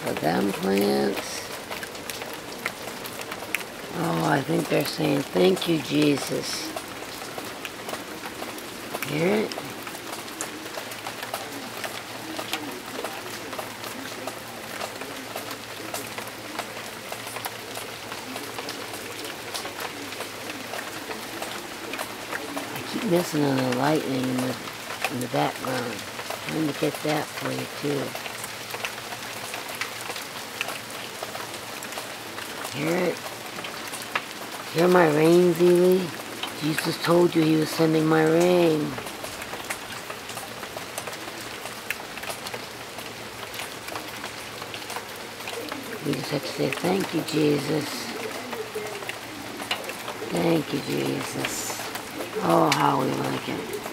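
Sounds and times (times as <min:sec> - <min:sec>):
drips and spatters: 0:00.0 - 0:53.9
steady rain: 0:00.0 - 0:53.9.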